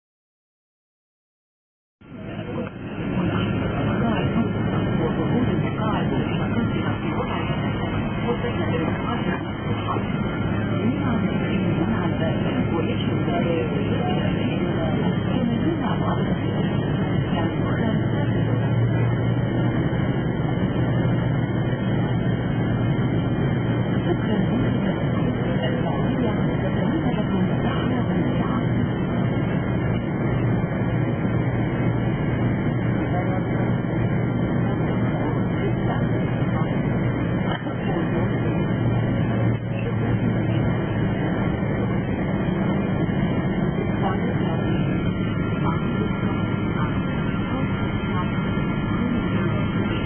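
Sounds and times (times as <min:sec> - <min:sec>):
airliner cabin drone: 0:02.0 - 0:50.0.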